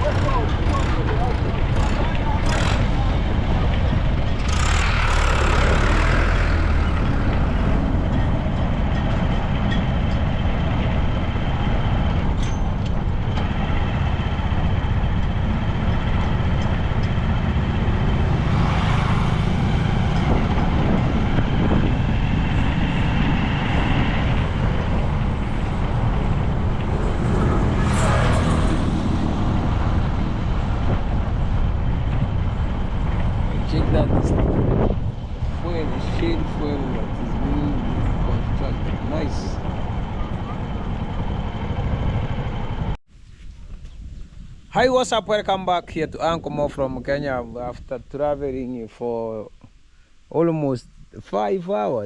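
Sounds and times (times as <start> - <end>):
vehicle engine and road rumble: 0.0 - 52.0.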